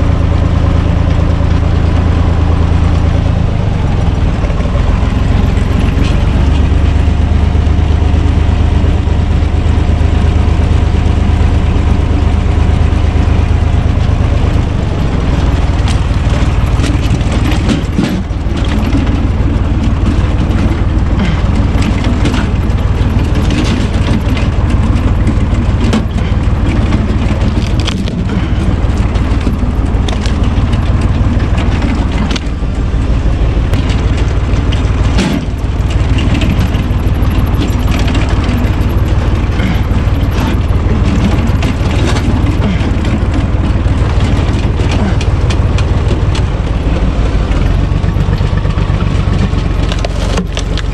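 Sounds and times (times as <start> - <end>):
diesel tractor engine running: 0.0 - 50.9
firewood cracking and knocking: 4.0 - 8.4, 13.1 - 50.9.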